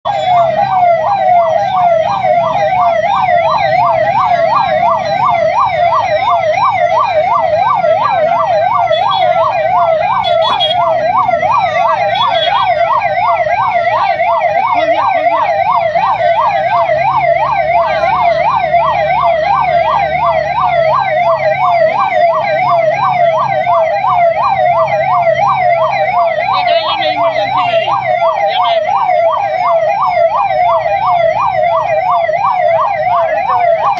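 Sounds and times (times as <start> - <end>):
ambulance siren yelp: 0.0 - 33.9.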